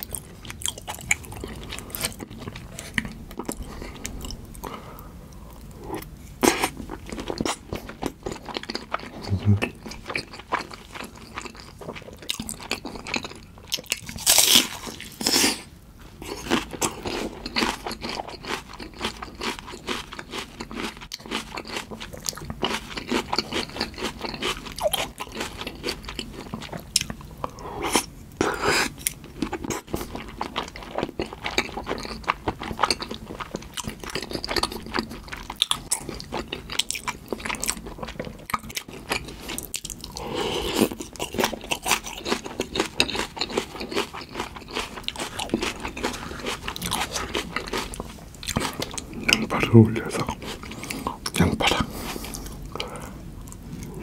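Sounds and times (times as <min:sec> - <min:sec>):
crunchy chewing: 0:05.3 - 0:54.0.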